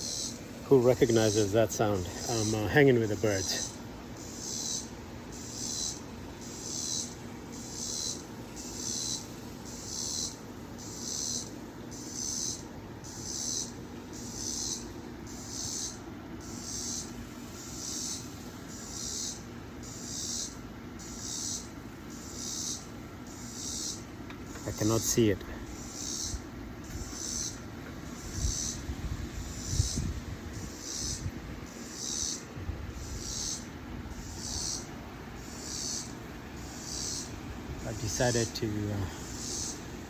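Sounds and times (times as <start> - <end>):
raspy hissing animal buzz: 0.0 - 40.0.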